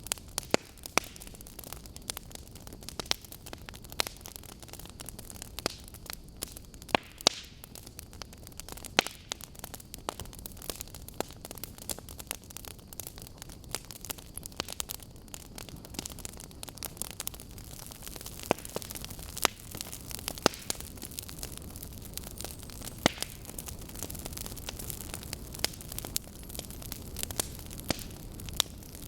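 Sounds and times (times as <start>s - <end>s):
fire hissing: 0.0s - 29.0s
wood logs crackling and popping: 0.0s - 29.0s.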